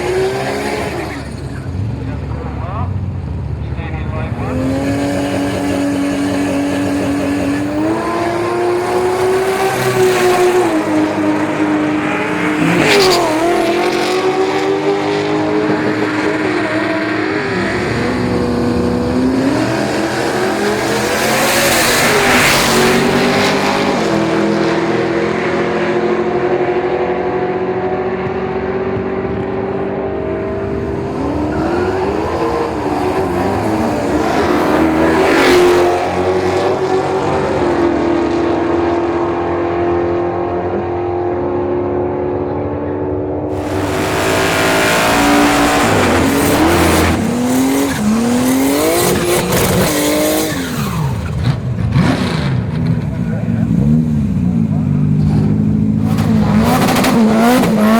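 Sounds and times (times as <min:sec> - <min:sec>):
car engines idling and revving: 0:00.0 - 0:57.9
full-throttle engine rushes: 0:00.0 - 0:57.9.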